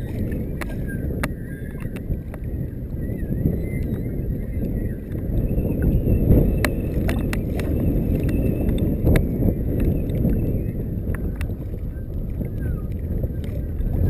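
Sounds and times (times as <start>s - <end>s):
water lapping against float tube: 0.0s - 14.0s
wind buffeting microphone: 0.0s - 14.0s.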